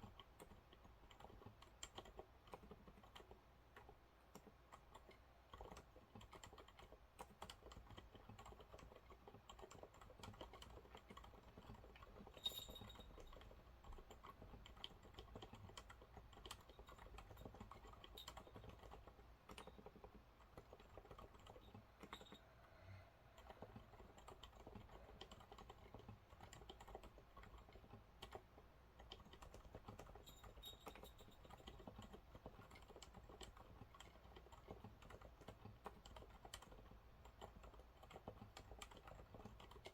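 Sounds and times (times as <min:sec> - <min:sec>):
muted keyboard typing: 0:00.0 - 0:39.9.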